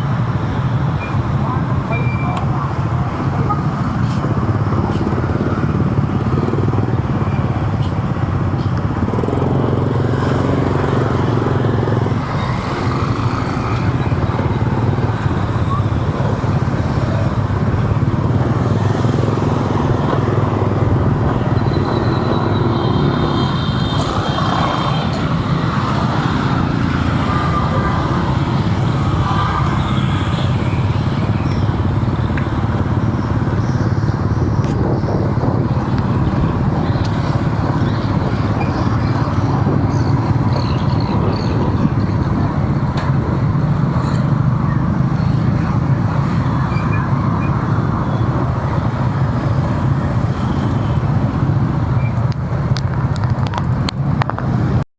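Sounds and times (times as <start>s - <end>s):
vehicle engine and road noise: 0.0s - 54.9s.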